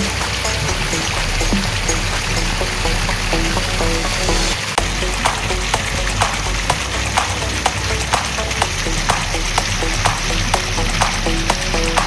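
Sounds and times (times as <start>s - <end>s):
background music with beat: 0.0s - 12.0s
water rushing over weir: 0.0s - 12.0s.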